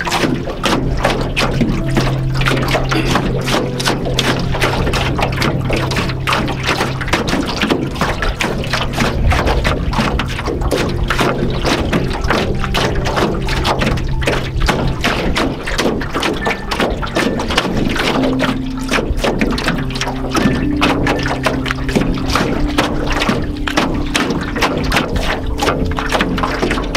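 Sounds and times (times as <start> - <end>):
held low music chords: 0.0 - 26.9
waves slapping a canoe hull: 0.0 - 26.9.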